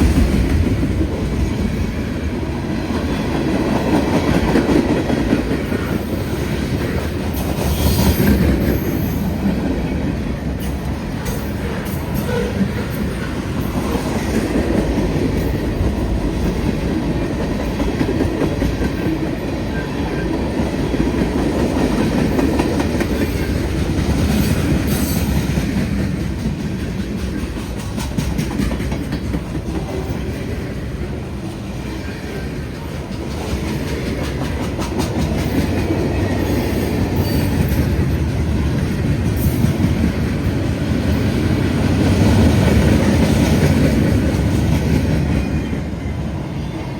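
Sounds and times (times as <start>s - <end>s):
freight train wheels rumbling and clacking: 0.0s - 46.9s.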